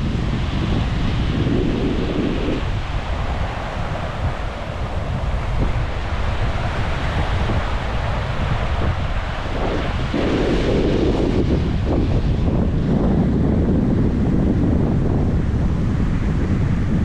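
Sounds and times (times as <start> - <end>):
sea waves washing onto beach: 0.0 - 17.0
wind buffeting microphone: 0.0 - 17.0.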